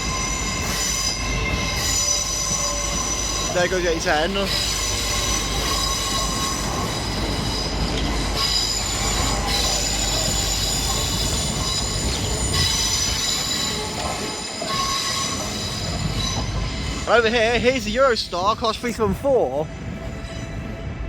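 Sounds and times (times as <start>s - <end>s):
train wheels squealing: 0.0s - 18.6s, 20.0s - 21.0s
train low rumble: 0.0s - 21.0s.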